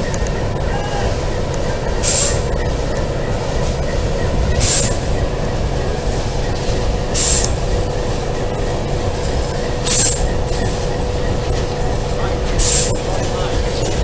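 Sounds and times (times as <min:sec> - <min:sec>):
diesel locomotive engine rumble: 0:00.0 - 0:14.0
high-pitched wheel squeals: 0:00.0 - 0:14.0.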